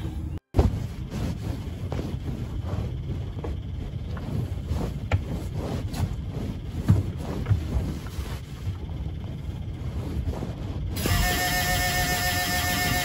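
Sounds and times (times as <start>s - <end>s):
wind buffeting the microphone: 0.6s - 11.0s.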